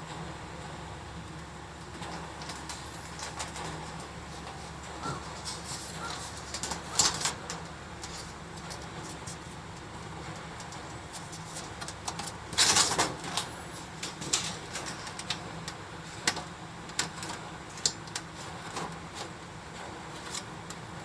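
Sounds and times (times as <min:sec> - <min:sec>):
firewood crackling and popping: 0:01.2 - 0:21.0.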